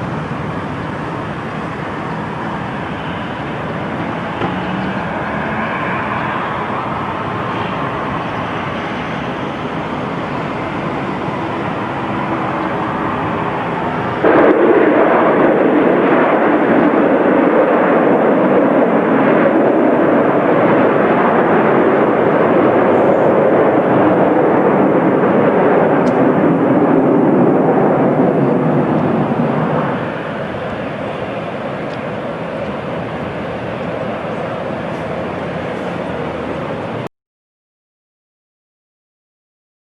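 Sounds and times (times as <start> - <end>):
airliner engines roaring: 0.0 - 37.1.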